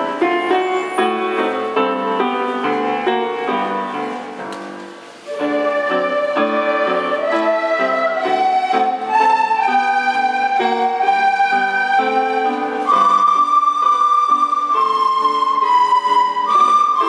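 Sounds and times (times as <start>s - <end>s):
children's recorder ensemble: 0.0s - 4.6s, 5.2s - 17.0s.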